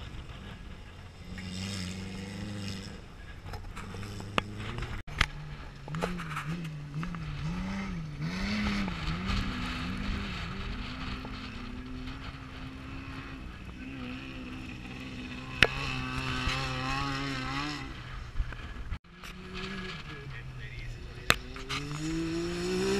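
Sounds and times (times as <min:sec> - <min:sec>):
race vehicle engine revving: 0:00.0 - 0:22.9.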